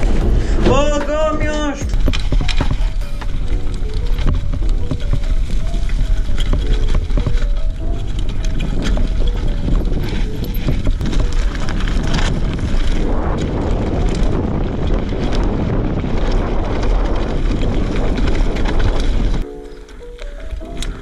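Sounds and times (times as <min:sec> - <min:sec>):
wind on microphone: 0:00.0 - 0:19.5
bike clicks and knocks: 0:00.0 - 0:21.0
mountain bike rumble and rattle: 0:00.0 - 0:21.0
tyres crunching over gravel: 0:00.0 - 0:21.0.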